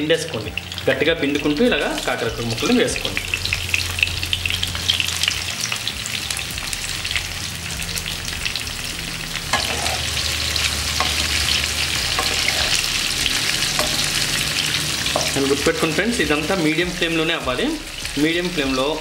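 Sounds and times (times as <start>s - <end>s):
sizzling and crackling in oil: 0.0s - 19.0s.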